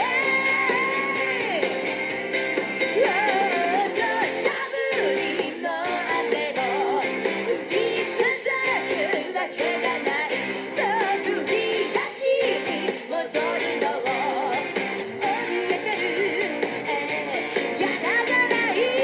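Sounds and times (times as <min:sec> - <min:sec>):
electric guitar lead bending: 0:00.0 - 0:19.0
rock song with full band: 0:00.0 - 0:19.0.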